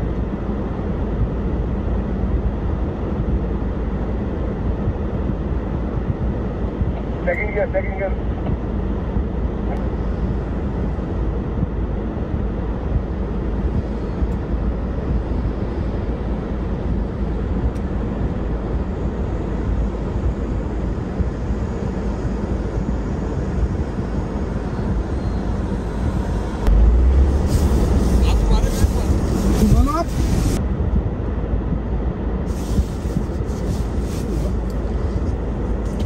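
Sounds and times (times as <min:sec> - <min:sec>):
blizzard wind: 0:00.0 - 0:36.0
vehicle engine rumbling: 0:00.0 - 0:36.0.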